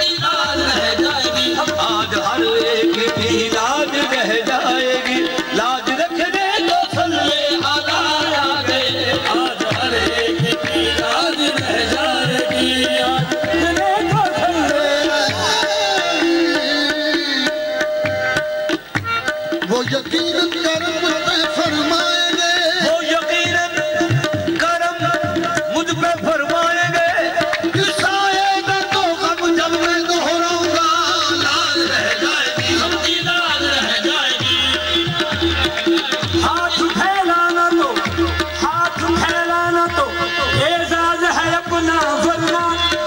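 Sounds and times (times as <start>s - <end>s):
hand drums beating: 0.0s - 43.0s
harmoniums holding chords: 0.0s - 43.0s.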